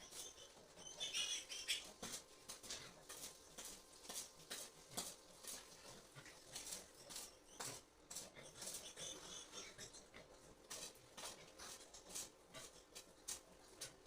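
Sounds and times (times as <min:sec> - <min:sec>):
faint clicks and scratches: 0:00.0 - 0:14.0.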